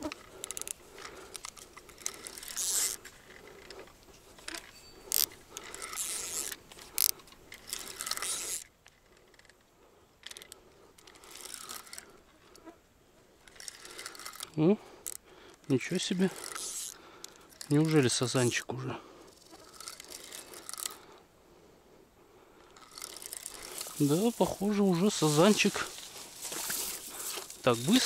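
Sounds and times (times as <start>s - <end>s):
fishing reel clicking and rattling: 0.0s - 12.7s, 13.4s - 21.2s, 22.6s - 28.0s.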